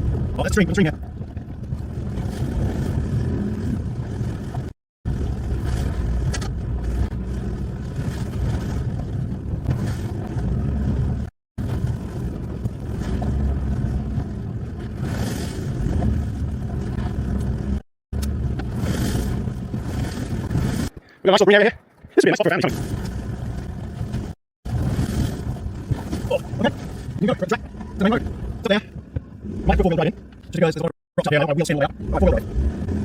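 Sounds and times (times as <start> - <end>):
truck engine and tyres rumbling: 0.0 - 33.0.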